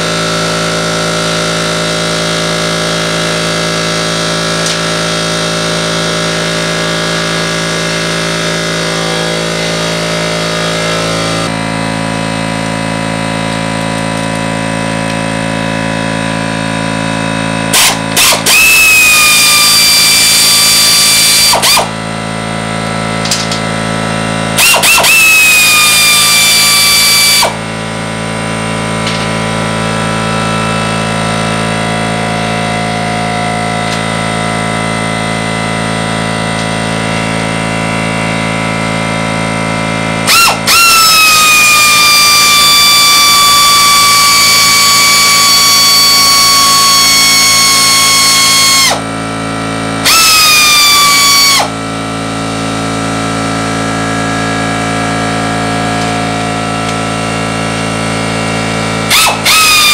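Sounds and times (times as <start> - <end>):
air ratchet whine: 0.0 - 59.9
steady drone: 0.0 - 59.9.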